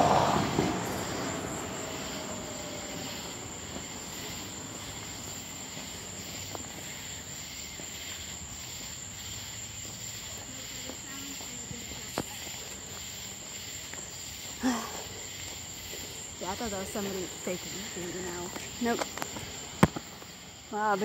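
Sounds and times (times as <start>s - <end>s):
cicadas singing: 0.0s - 21.0s
crickets trilling: 0.0s - 21.0s.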